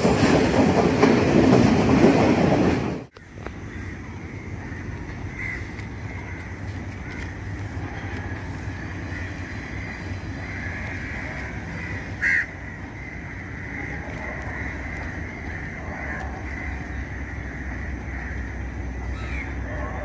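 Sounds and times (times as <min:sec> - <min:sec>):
crow cawing: 0:03.2 - 0:19.8.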